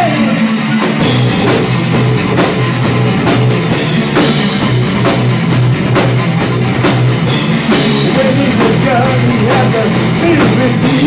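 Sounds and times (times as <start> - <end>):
drum kit hits: 0.0 - 11.0
rock band playing: 0.0 - 11.0.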